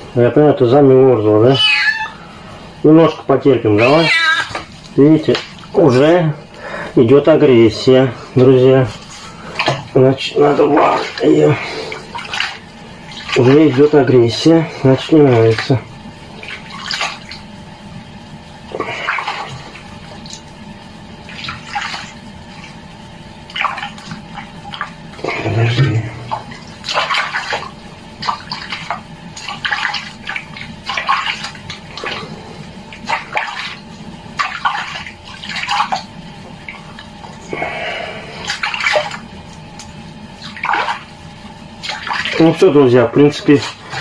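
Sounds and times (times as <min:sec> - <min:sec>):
water splashing in a basin: 0:02.9 - 0:44.0.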